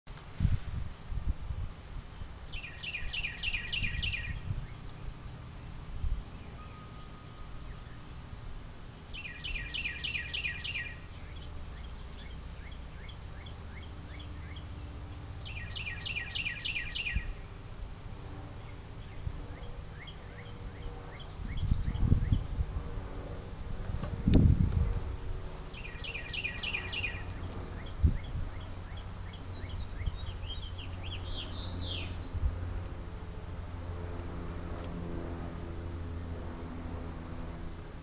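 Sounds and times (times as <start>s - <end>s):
songbird singing: 0.1s - 38.0s
steady low rumble: 0.2s - 38.0s.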